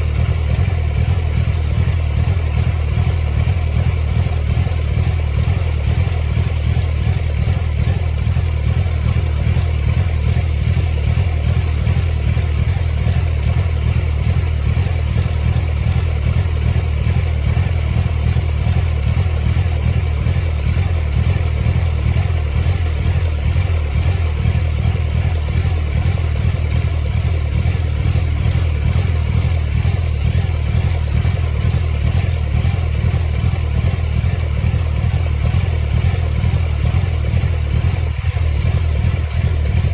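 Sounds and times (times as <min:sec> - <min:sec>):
car engine running steadily: 0:00.0 - 0:39.9.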